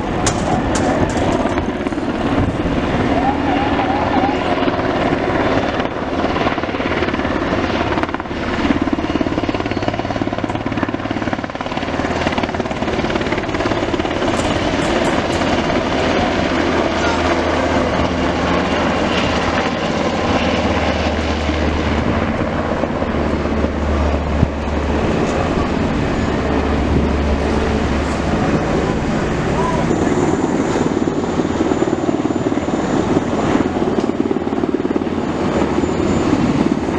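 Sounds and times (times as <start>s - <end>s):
helicopter flying overhead: 0.0s - 36.9s.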